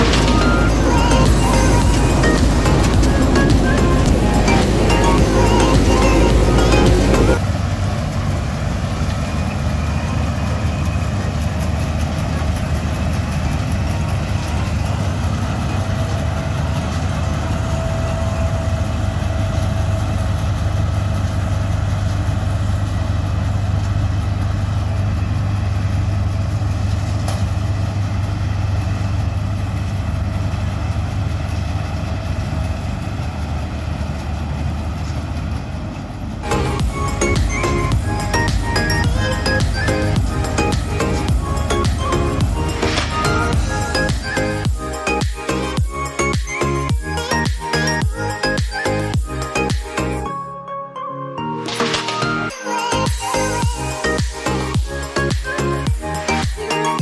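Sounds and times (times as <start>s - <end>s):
combine harvester diesel engine hum: 0.0s - 50.3s
threshing machinery: 0.0s - 50.3s, 51.6s - 55.6s.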